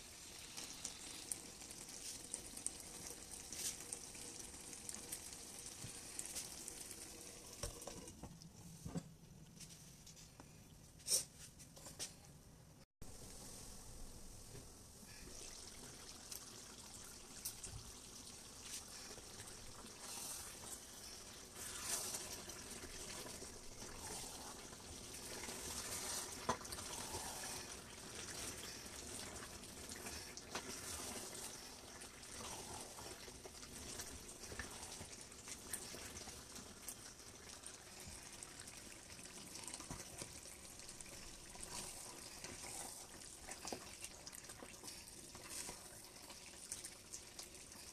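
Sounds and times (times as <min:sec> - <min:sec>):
stew bubbling and sizzling: 0:00.0 - 0:11.3, 0:13.0 - 0:47.9.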